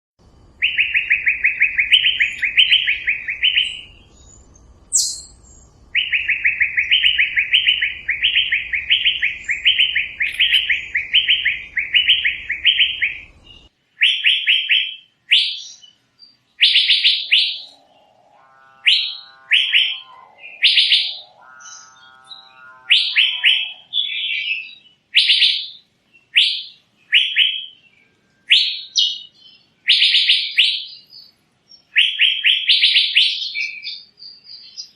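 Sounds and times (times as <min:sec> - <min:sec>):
low buzzy bird call: 0:00.5 - 0:34.9
bird whistling sharp notes: 0:00.6 - 0:13.3, 0:14.0 - 0:16.0, 0:16.6 - 0:27.8, 0:28.4 - 0:31.3.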